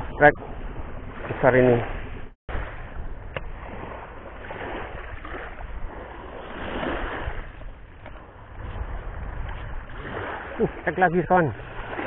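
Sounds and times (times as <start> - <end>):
sea waves washing on shore: 0.0 - 12.0
wind on microphone: 0.0 - 12.0.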